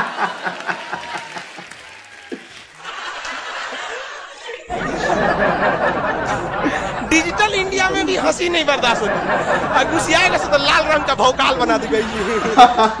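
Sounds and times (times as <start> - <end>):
laughter and chuckling: 0.0 - 1.8, 2.7 - 13.0
murmur of studio crowd: 0.0 - 13.0
studio audience laughing and clapping: 0.0 - 13.0.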